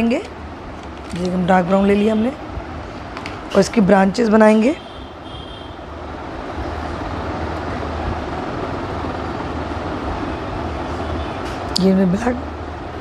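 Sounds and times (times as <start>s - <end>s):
steady rumbling with low hum: 0.0s - 13.0s.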